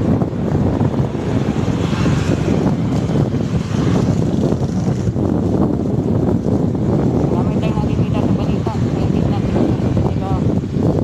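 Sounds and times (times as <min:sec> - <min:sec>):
road and traffic noise: 0:00.0 - 0:11.0
wind rumble on microphone: 0:00.0 - 0:11.0.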